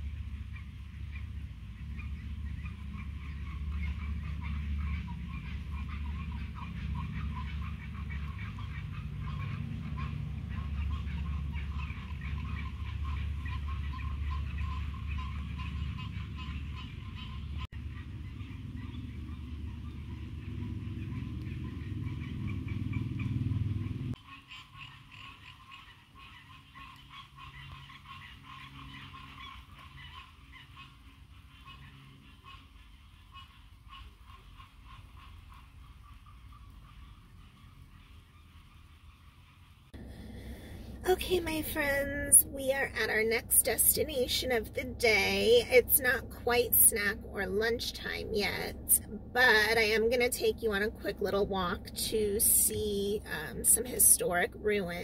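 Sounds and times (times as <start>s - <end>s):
steady low rumble: 0.0s - 24.2s, 26.2s - 55.0s
chorus of animal calls: 0.0s - 55.0s.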